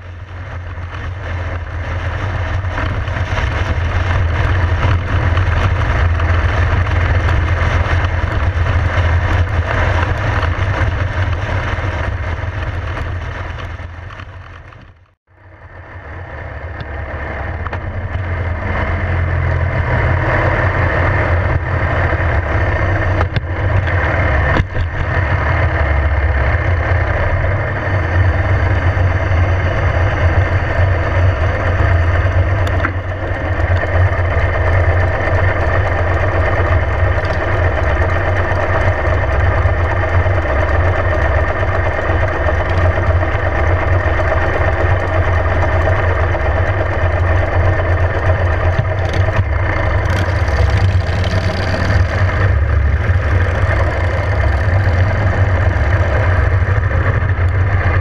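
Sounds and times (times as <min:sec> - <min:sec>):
motorcycle engines idling: 0:00.0 - 0:58.0.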